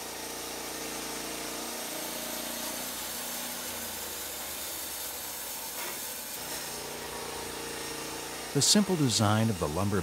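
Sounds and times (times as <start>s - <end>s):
band sawmill cutting log: 0.0s - 10.0s.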